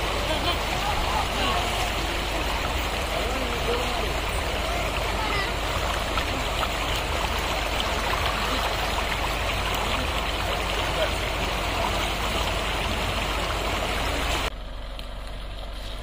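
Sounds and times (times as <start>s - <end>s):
flowing river rushing: 0.0s - 14.5s.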